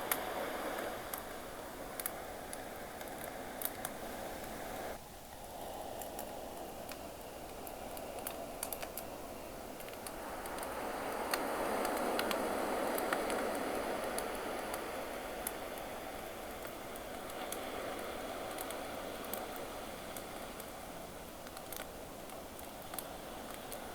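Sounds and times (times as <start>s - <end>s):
campfire crackling and popping: 0.1s - 23.9s.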